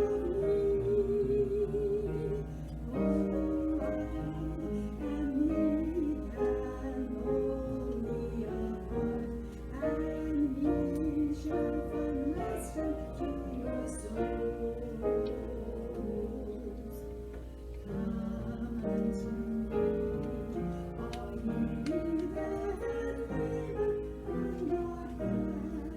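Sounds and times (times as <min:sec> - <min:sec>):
slow vibrato melody music: 0:00.0 - 0:25.9.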